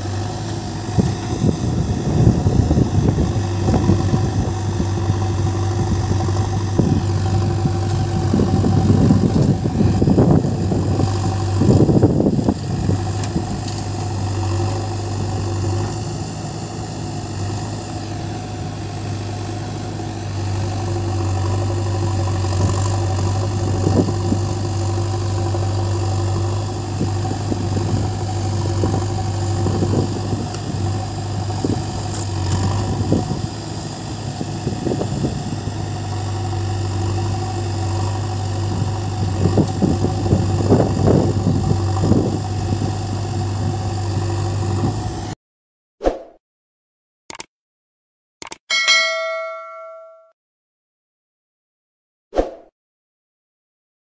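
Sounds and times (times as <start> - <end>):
diesel engines running: 0.0 - 45.4.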